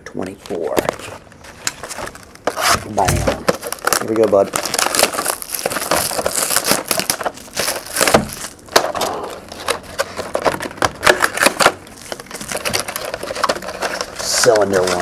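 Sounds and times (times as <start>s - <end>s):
plastic shrink-wrap crinkling: 0.4s - 15.0s.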